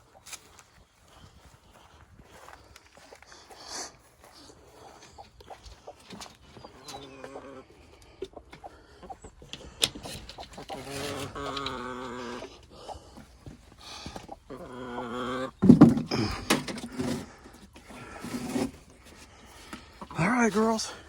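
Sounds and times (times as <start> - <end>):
hens calling: 0.0 - 21.0.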